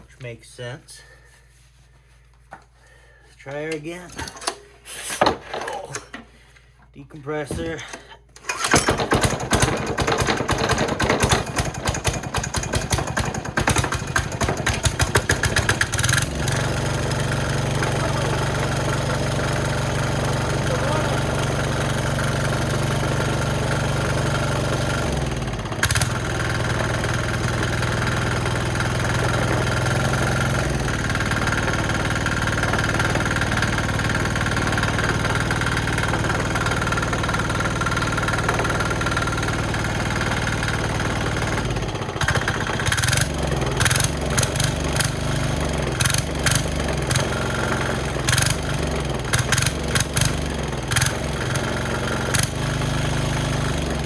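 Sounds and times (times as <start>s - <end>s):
small diesel engine running: 8.4s - 54.0s.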